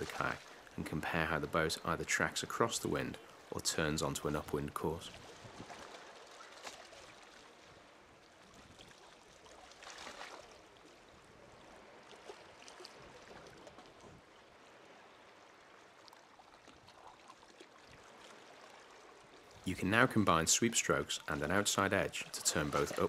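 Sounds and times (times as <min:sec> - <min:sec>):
kayak paddle splashes: 0:00.0 - 0:01.2, 0:05.1 - 0:23.0
small waves lapping: 0:00.0 - 0:23.0.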